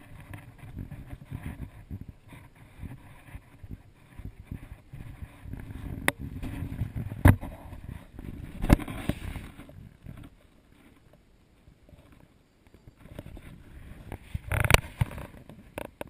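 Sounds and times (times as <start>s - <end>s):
camera rubbing and bumping: 0.0s - 11.1s, 12.9s - 16.0s.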